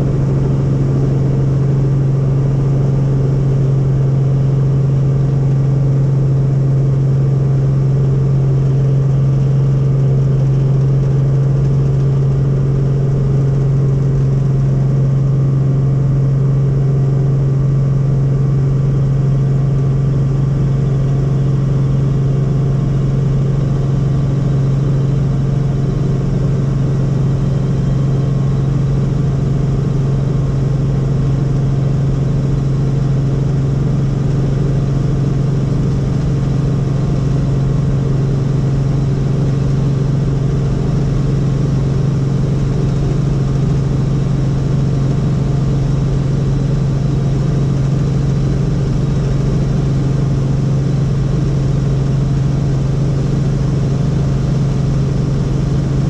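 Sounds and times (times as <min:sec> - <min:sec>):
helicopter engine and rotor hum: 0:00.0 - 0:56.0.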